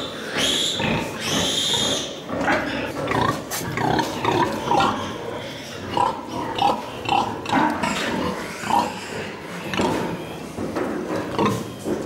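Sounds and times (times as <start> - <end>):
pigs grunting: 0.0 - 12.0.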